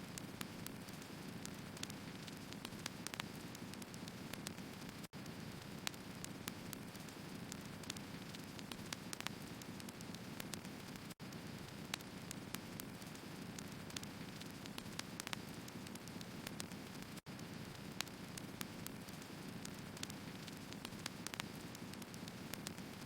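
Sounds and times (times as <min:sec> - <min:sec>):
firewood crackling and popping: 0:00.2 - 0:23.0.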